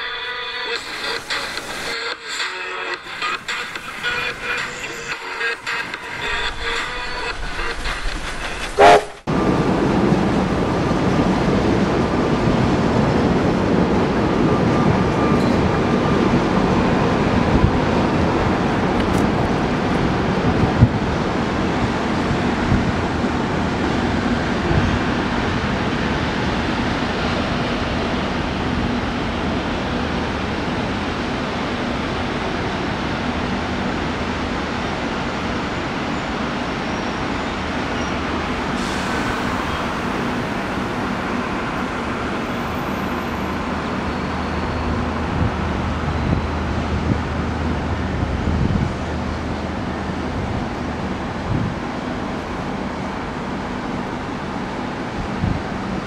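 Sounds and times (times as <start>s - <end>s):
low train engine hum: 0.0s - 56.0s.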